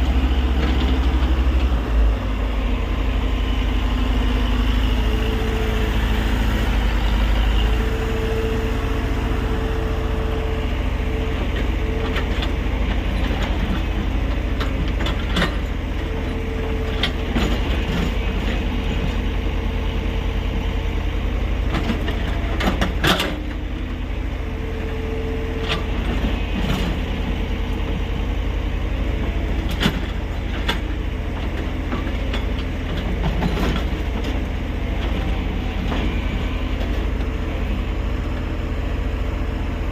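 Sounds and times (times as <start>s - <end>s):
engine whine: 0.0s - 39.9s
excavator diesel engine running: 0.0s - 39.9s.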